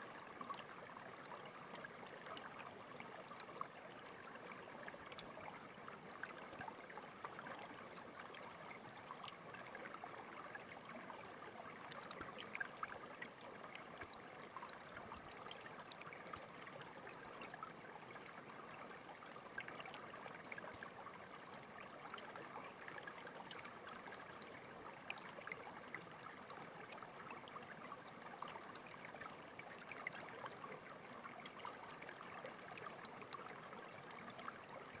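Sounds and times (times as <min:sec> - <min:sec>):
stream water trickling: 0:00.0 - 0:35.0.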